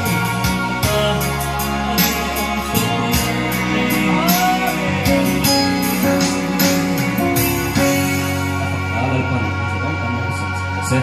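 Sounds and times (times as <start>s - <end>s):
instrumental music with chords: 0.0s - 11.0s.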